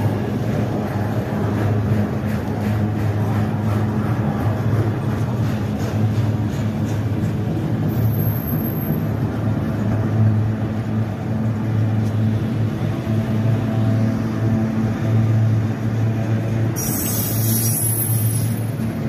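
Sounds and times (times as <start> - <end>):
diesel locomotives droning: 0.0 - 19.0.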